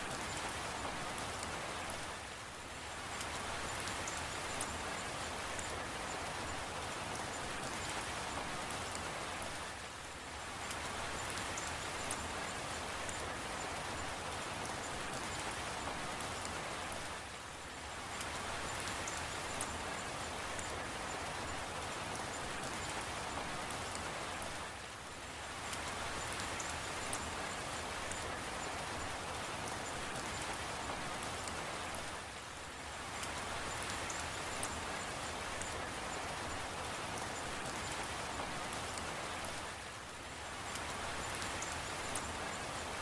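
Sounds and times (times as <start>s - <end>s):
fine raindrop ticks: 0.0s - 43.0s
steady rain falling: 0.0s - 43.0s.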